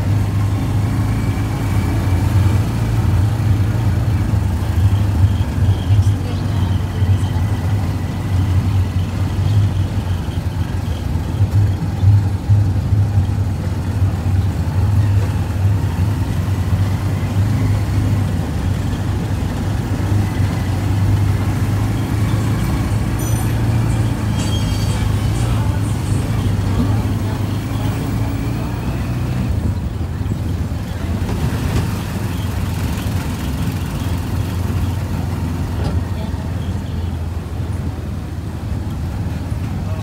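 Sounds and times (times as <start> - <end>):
vehicle engine droning: 0.0 - 40.0.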